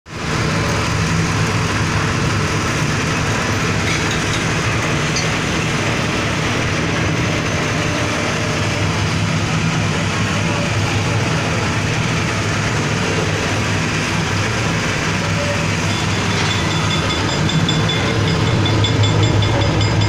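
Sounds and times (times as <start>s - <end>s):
small petrol engine running: 0.1s - 20.0s.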